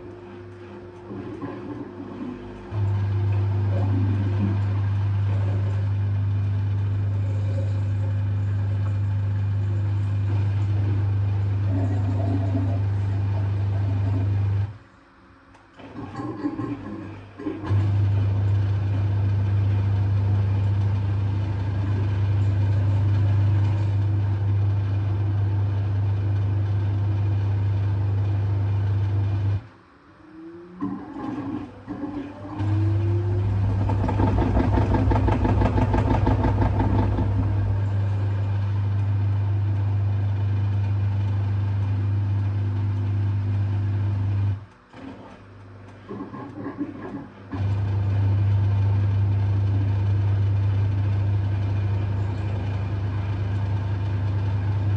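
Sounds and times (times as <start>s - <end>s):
water gurgling in pump: 0.0s - 14.8s, 15.8s - 29.6s, 30.7s - 42.6s, 46.0s - 52.9s
drain pump humming: 0.0s - 54.9s.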